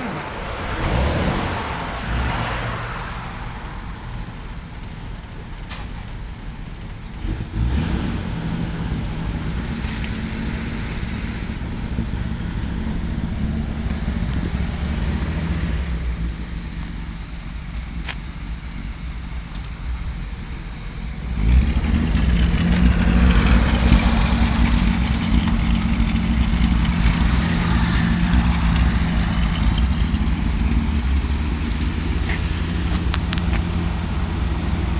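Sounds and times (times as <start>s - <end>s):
car engine rumbling: 0.0s - 34.9s.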